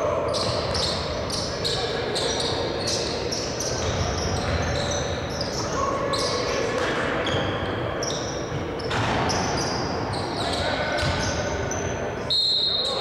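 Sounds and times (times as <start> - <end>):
echoing arena noise: 0.0 - 13.0
sneakers squeaking on court: 0.1 - 13.0.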